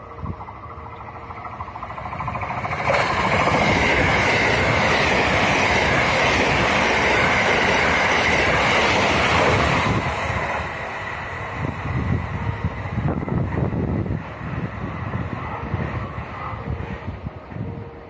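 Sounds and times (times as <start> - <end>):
train passing with wheels rumbling: 0.0 - 18.0.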